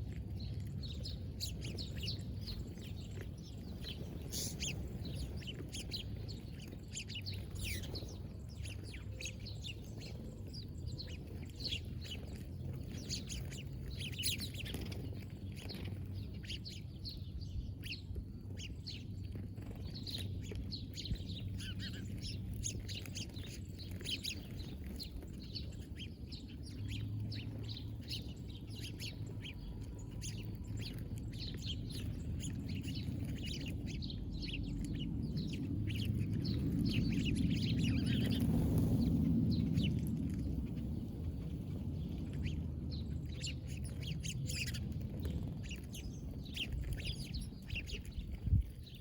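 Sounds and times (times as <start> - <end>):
low steady rumble: 0.0 - 49.0
small birds chirping: 0.0 - 49.0.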